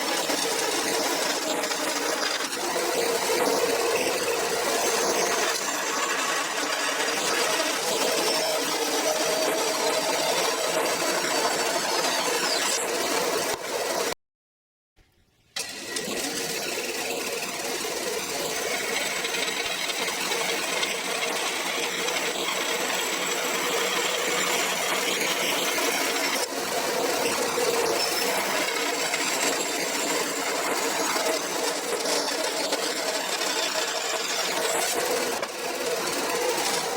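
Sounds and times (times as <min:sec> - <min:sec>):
machine tool cutting aluminium: 0:00.0 - 0:14.2, 0:15.6 - 0:36.9.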